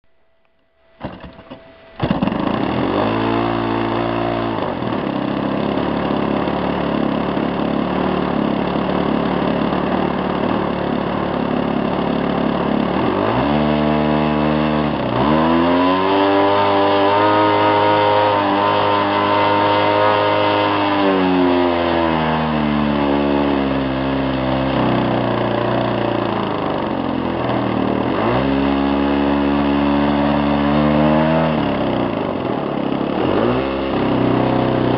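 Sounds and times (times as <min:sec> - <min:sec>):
model plane engine revving: 0:01.0 - 0:34.9.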